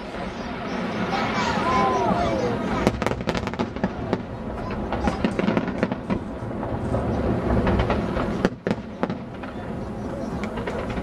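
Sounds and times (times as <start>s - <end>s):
fireworks cracks and bangs: 0.0s - 11.0s
fireworks low rumble: 0.0s - 11.0s.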